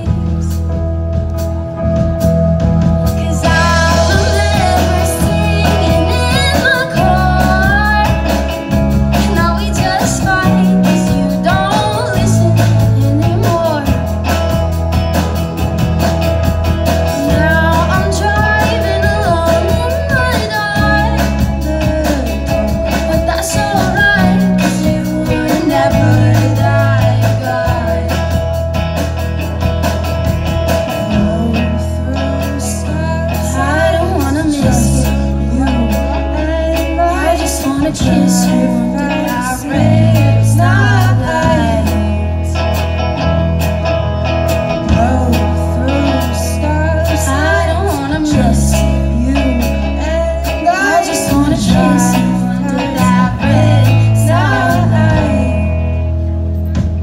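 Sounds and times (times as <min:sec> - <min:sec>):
woman singing lead: 0:00.0 - 0:01.2, 0:02.9 - 0:29.7, 0:30.7 - 0:43.3, 0:44.7 - 0:56.8
bass guitar: 0:00.0 - 0:57.0
electric guitar: 0:00.0 - 0:57.0
keyboard: 0:00.0 - 0:57.0.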